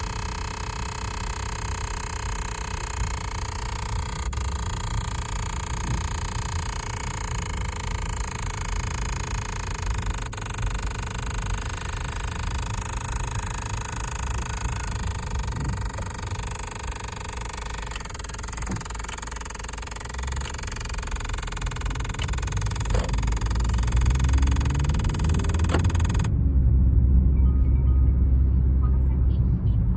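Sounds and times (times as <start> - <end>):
faint clicks: 0.0 - 26.3
whirring motor behind dashboard: 0.0 - 26.3
deep rumble: 3.0 - 29.9.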